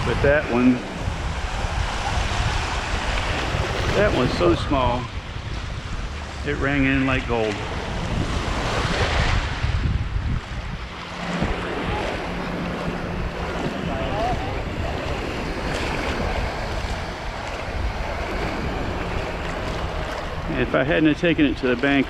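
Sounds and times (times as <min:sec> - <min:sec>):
ocean surf breaking: 0:00.0 - 0:22.0
wind rumbling on microphone: 0:00.0 - 0:22.0.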